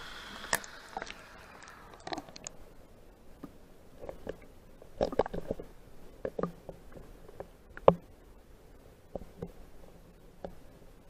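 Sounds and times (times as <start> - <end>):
muffled underwater river gurgling: 0.0 - 11.0.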